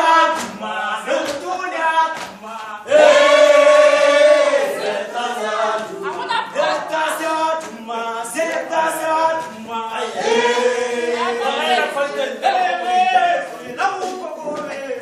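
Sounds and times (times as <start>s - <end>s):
group singing a cappella: 0.0s - 14.8s.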